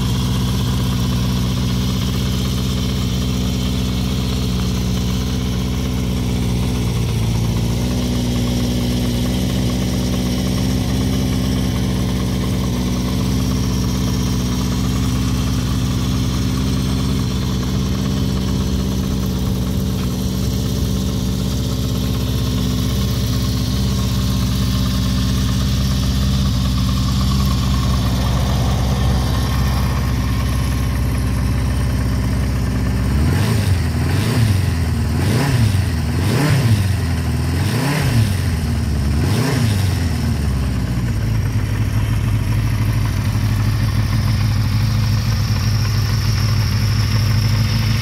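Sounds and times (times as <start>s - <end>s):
motorcycle engine idling and revving: 0.0s - 48.0s.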